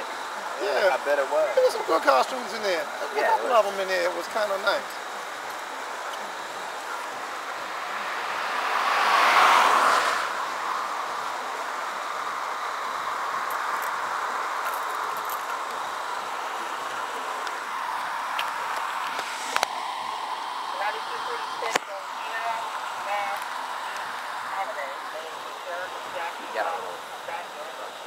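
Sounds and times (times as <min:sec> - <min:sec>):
vehicle passing by: 0:00.0 - 0:27.7
steady traffic noise: 0:00.0 - 0:28.0.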